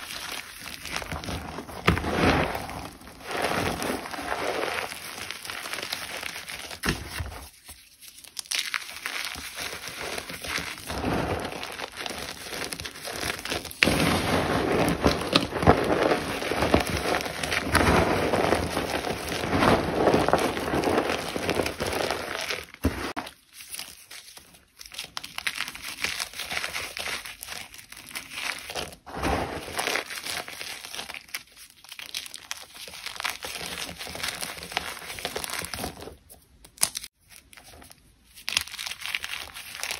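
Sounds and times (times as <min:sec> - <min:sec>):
brittle material crunching: 0:00.0 - 0:39.9.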